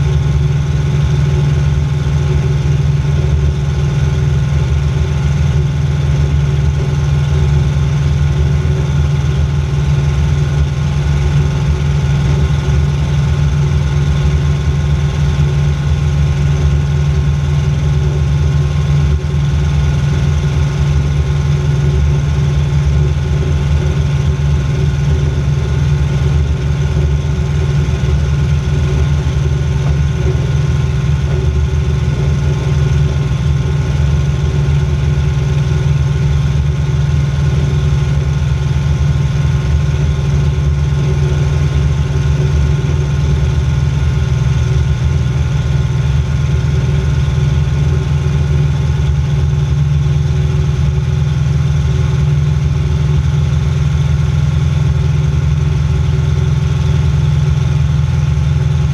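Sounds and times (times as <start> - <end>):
plane engine and propeller droning: 0.0 - 58.9.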